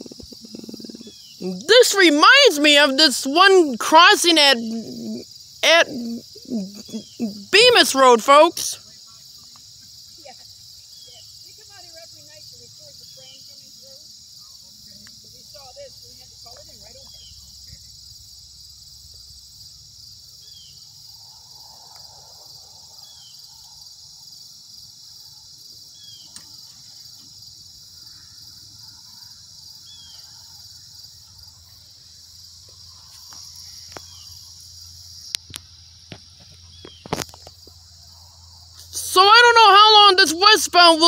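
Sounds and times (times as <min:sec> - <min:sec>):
high-pitched insect chorus: 0:00.0 - 0:41.0.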